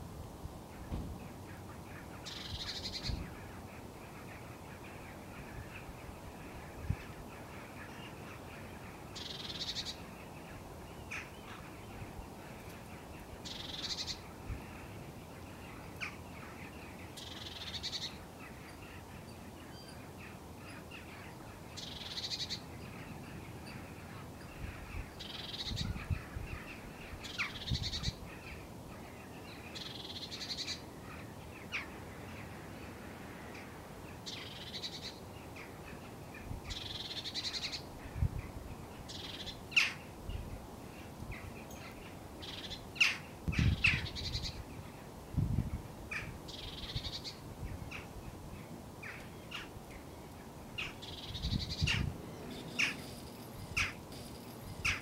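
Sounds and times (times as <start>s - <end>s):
low gusts of wind: 0.0s - 55.0s
wind hissing through cattails: 0.0s - 55.0s
small birds calling: 0.7s - 45.1s, 46.1s - 55.0s.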